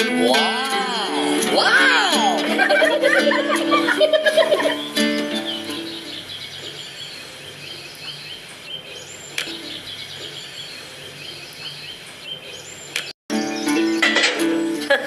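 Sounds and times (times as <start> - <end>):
birds chirping: 1.2 - 15.0
outdoor background hiss: 2.2 - 15.0.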